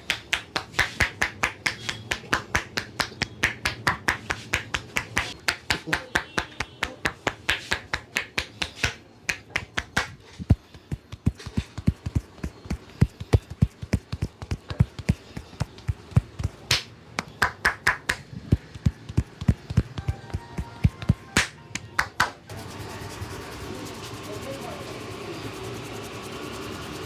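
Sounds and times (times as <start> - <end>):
hands slapping on body: 0.0 - 22.4.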